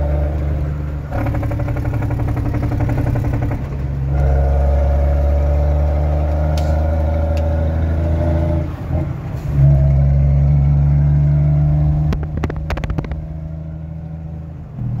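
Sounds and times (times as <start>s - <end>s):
loud diesel truck engine: 0.0s - 15.0s.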